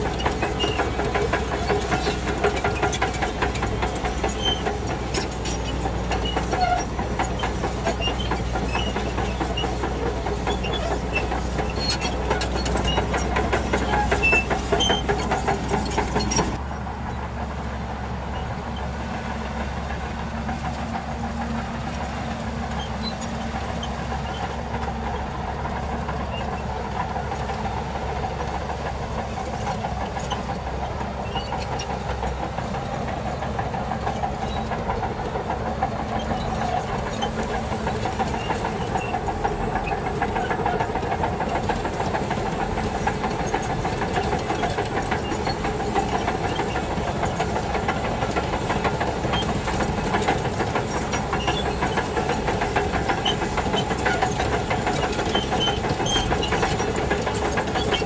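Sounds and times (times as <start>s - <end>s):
bulldozer diesel engine: 0.0s - 58.0s
steel tracks clanking: 0.0s - 58.0s.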